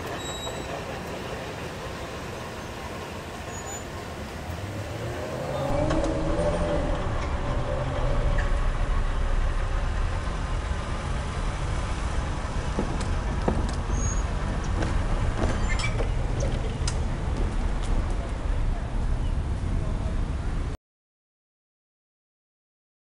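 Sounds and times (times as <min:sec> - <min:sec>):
road traffic rumble: 0:00.0 - 0:20.8.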